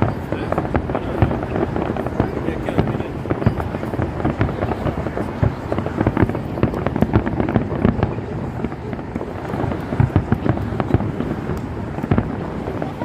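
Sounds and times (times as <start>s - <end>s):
fireworks bangs and booms: 0.0s - 13.0s.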